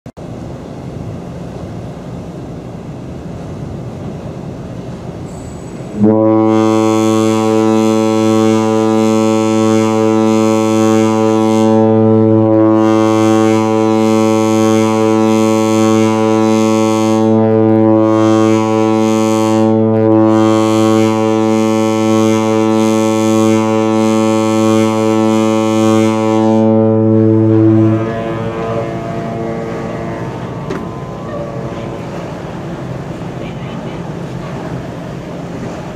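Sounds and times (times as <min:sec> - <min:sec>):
ship air horn blast: 0:05.4 - 0:35.9.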